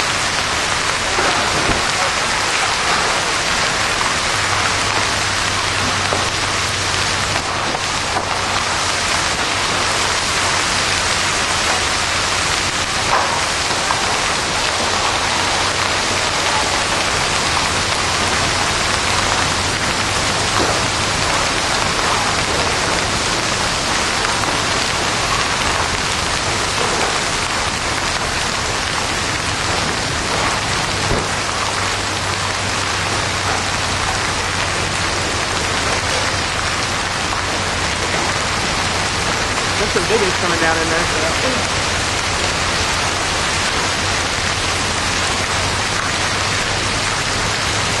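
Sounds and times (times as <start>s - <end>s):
hail hitting pavement: 0.0s - 48.0s
heavy rain hissing: 0.0s - 48.0s.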